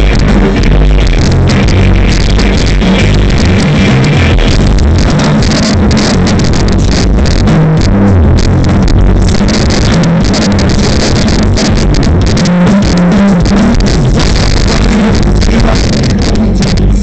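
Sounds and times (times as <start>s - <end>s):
distorted live band music: 0.0s - 17.0s
prominent bass line: 0.0s - 17.0s.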